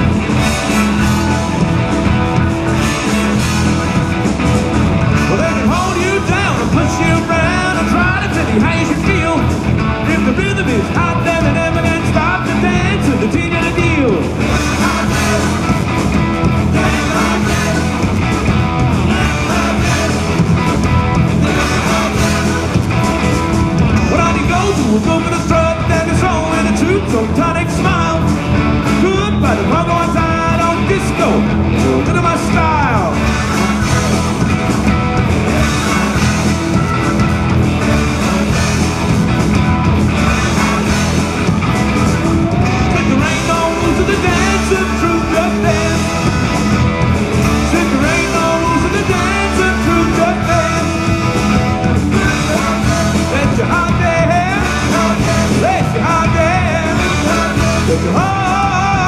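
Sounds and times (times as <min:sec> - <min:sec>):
lead vocals singing: 0:00.0 - 0:59.0
live rock band playing: 0:00.0 - 0:59.0.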